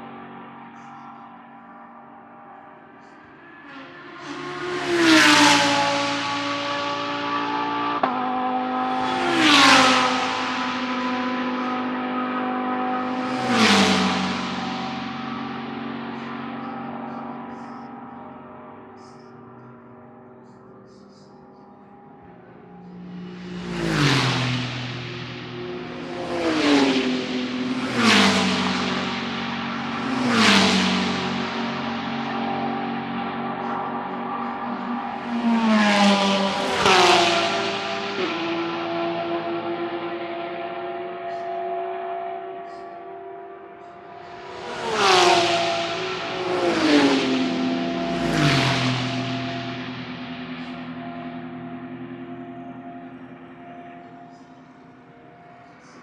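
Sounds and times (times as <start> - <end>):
race car engine passing: 0.0 - 56.0.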